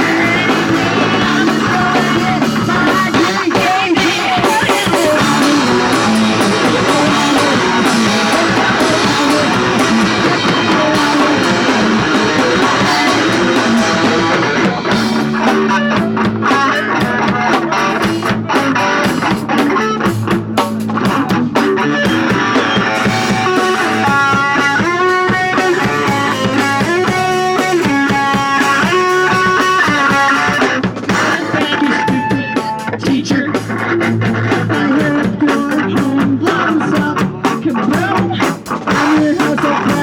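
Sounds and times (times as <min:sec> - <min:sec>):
bass guitar: 0:00.0 - 0:40.0
drum kit: 0:00.0 - 0:40.0
electric guitar: 0:00.0 - 0:40.0.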